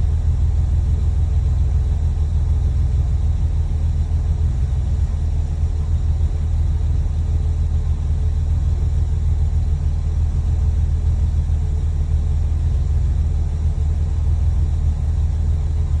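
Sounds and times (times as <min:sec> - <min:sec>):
car engine rumbling steadily: 0:00.0 - 0:16.0.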